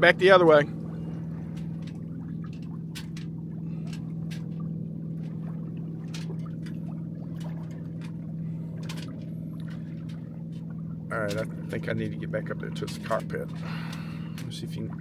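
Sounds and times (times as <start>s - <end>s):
steady low hum: 0.0s - 15.0s
water trickling against boat hull: 0.0s - 15.0s.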